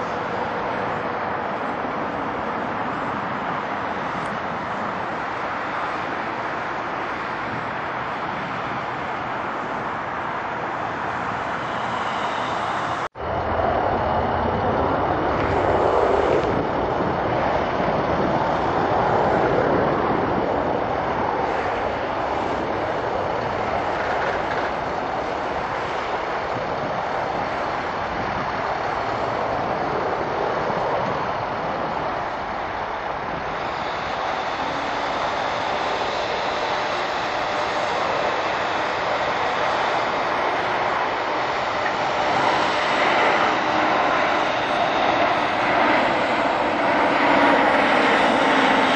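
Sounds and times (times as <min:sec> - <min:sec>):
jet airliner engines running: 0:00.0 - 0:48.9.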